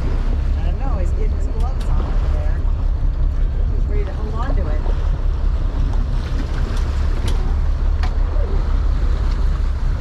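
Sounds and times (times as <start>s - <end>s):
boat engine rumble: 0.0s - 10.0s
wind on microphone: 0.0s - 10.0s.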